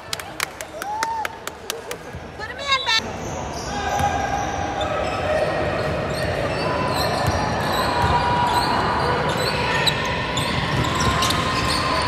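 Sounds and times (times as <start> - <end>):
sneaker squeaks: 2.0 - 12.0.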